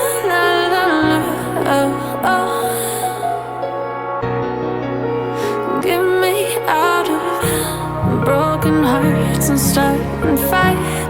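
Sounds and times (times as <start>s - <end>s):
background pop song: 0.0s - 11.0s.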